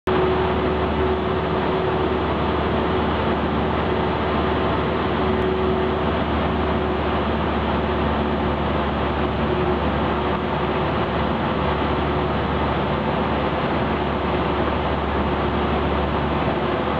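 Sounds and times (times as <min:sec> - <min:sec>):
airplane propeller engine drone: 0:00.0 - 0:16.9.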